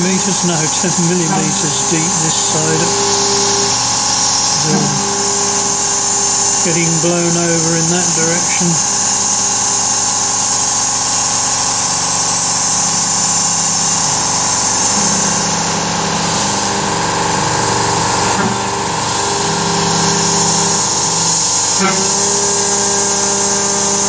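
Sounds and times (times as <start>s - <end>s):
air blast hissing: 0.0s - 24.0s
cnc mill spindle cutting: 0.0s - 24.0s.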